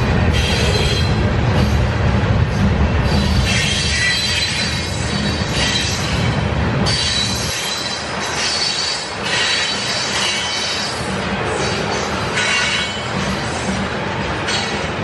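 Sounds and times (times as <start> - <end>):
wheels rumbling on rails: 0.0 - 15.0
train wheels squealing: 0.3 - 1.8, 3.0 - 13.8.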